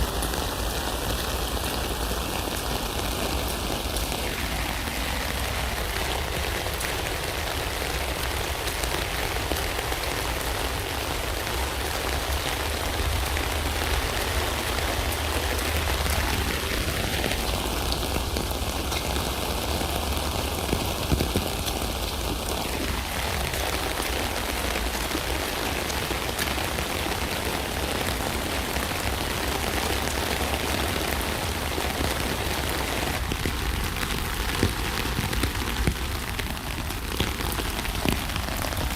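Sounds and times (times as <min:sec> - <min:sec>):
rain pattering on a tent: 0:00.0 - 0:38.9.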